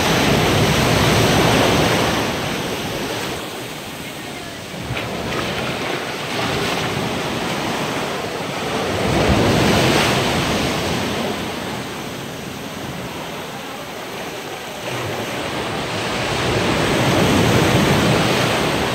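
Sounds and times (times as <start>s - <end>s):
surf breaking on sand: 0.0s - 18.9s.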